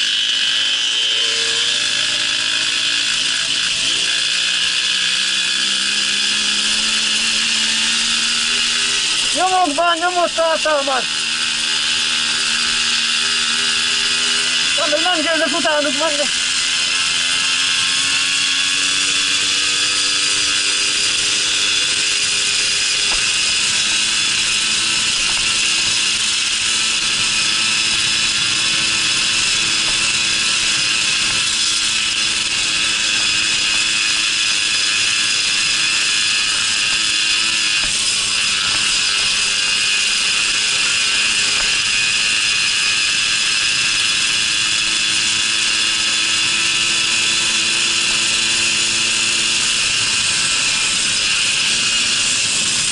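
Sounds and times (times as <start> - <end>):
moped engine buzzing: 0.0 - 52.9.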